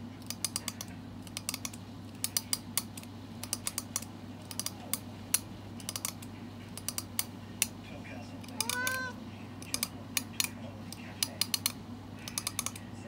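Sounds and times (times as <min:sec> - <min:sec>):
low steady hum: 0:00.0 - 0:13.0
comb teeth flicked clicking: 0:00.2 - 0:07.8, 0:09.6 - 0:12.8.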